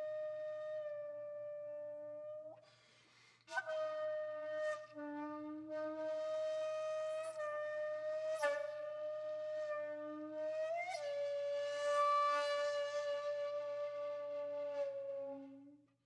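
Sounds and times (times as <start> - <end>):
breathy flute long notes: 0.0 - 2.8, 3.5 - 15.8.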